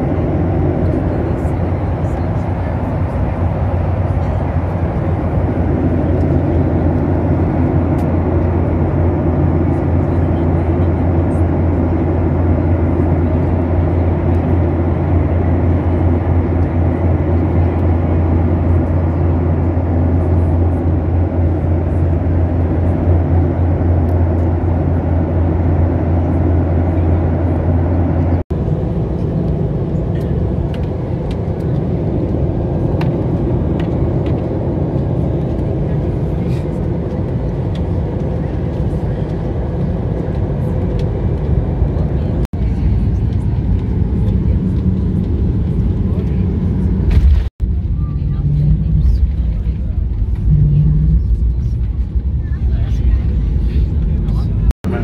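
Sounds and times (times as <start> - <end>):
airliner cabin engine hum: 0.0 - 55.0.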